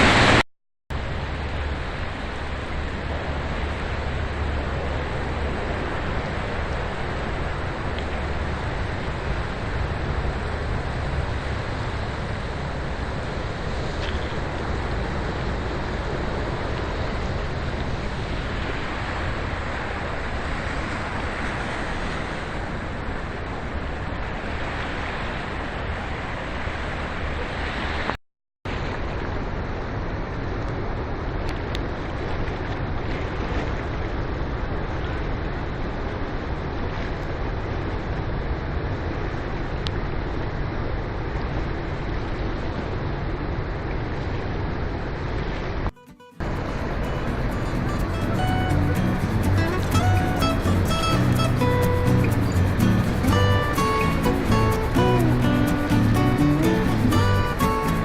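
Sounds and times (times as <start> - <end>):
waterfall roaring: 0.0 - 0.4, 1.0 - 28.0, 34.3 - 58.0.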